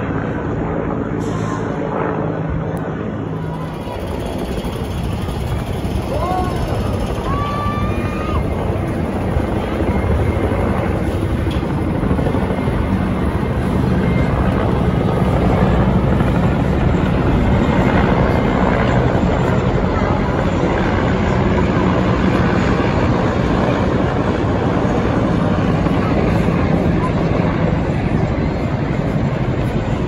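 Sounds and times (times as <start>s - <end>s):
helicopter rotor beat: 0.0s - 30.0s
helicopter turbine drone: 0.0s - 30.0s.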